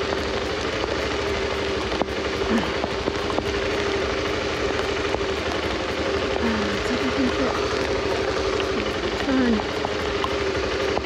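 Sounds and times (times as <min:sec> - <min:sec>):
heavy rain pouring: 0:00.0 - 0:11.0
motorcycle engine hum: 0:00.0 - 0:11.0
raindrops tapping microphone: 0:00.0 - 0:11.0.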